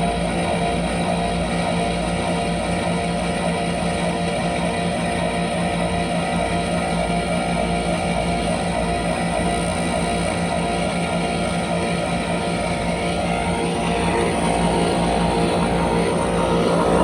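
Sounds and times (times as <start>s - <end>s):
fan noise: 0.0s - 17.0s.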